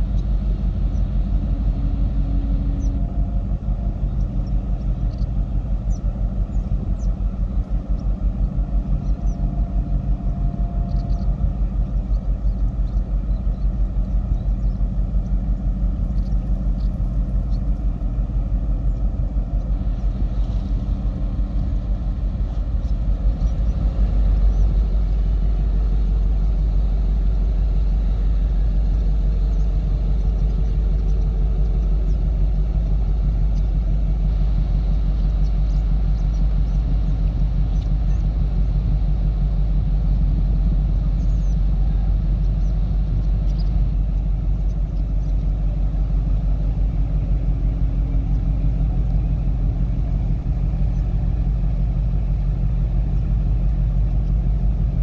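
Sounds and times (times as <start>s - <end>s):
pulsing engine rumble: 0.0s - 55.0s.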